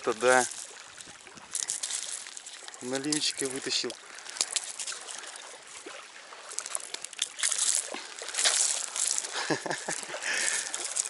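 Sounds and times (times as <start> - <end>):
water trickling and sloshing: 0.0 - 11.0
wet rustles and splashes: 0.0 - 11.0.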